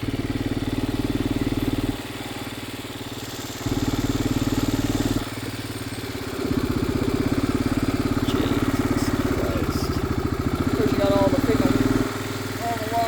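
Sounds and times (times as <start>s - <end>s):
vehicle engine revving at low speed: 0.0s - 13.0s.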